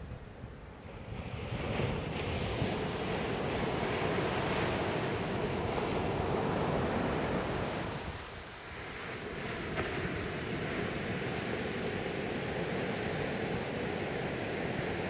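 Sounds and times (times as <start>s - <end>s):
waves breaking on beach: 0.8s - 15.0s.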